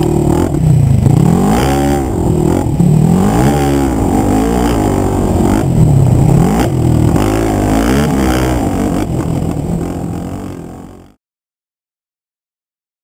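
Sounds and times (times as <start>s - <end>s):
quad engine revving: 0.0s - 11.2s.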